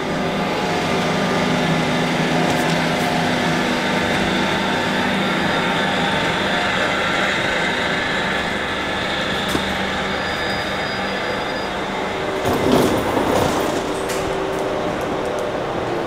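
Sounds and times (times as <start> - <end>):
train humming at platform: 0.0 - 16.0.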